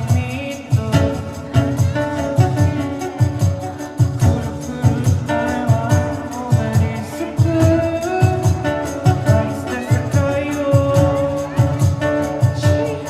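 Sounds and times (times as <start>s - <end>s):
music with steady beat: 0.0s - 13.0s.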